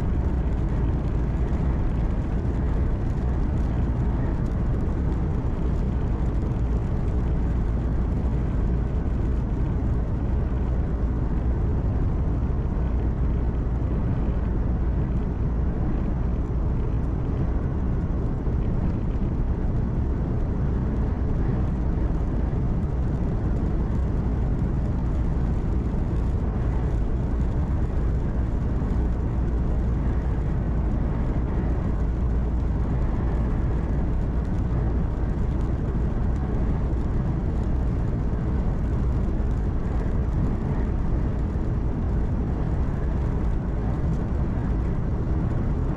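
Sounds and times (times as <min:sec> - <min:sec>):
tyre and wind noise: 0:00.0 - 0:45.9.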